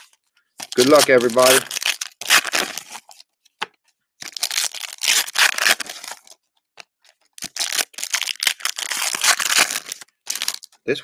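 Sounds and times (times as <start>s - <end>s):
plastic wrapping tearing and crackling: 0.0s - 3.3s, 4.2s - 6.4s, 7.1s - 10.8s.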